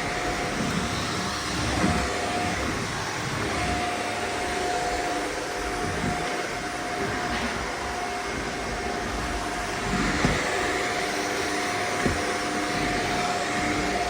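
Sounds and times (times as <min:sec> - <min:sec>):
upright vacuum cleaner running: 0:00.0 - 0:14.0.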